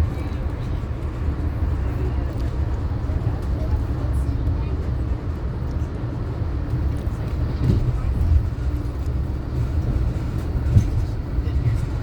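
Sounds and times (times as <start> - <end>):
train rumbling from inside coach: 0.0 - 12.0.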